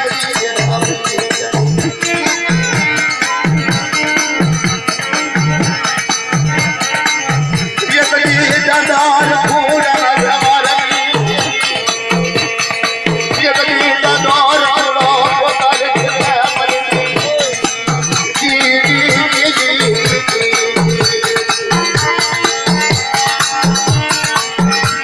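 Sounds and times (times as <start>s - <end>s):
music with drum beat: 0.0s - 25.0s
wavering melody line: 0.0s - 25.0s.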